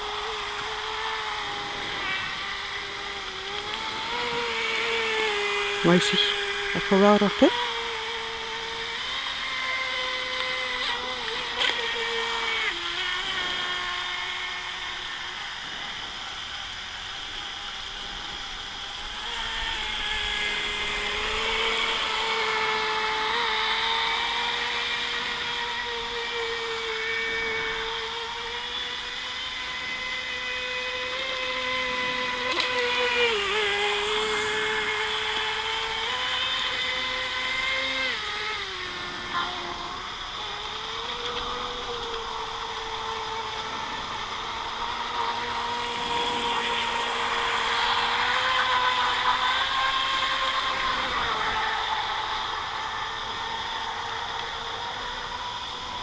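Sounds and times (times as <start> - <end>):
electric motor whining: 0.0 - 56.0.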